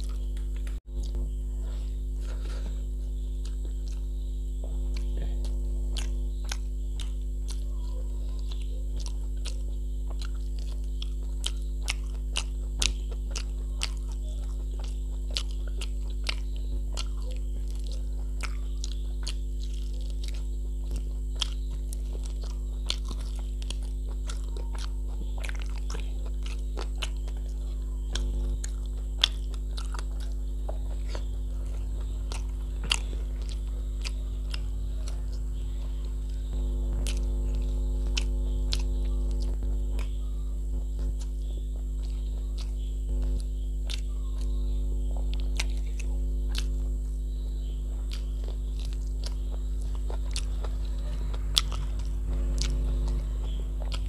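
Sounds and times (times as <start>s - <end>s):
mouth chewing and biting: 0.0s - 54.0s
steady low hum: 0.0s - 54.0s
sharp clicks and crunches: 4.9s - 54.0s.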